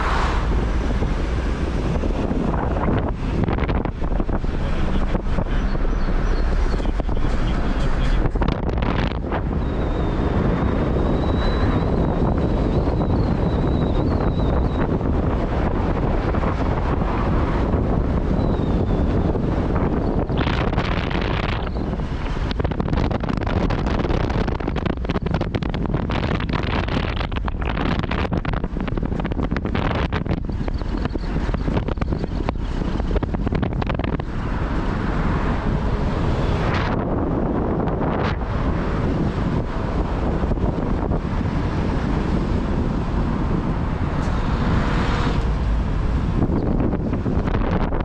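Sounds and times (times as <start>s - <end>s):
road and wind noise in car: 0.0s - 48.0s.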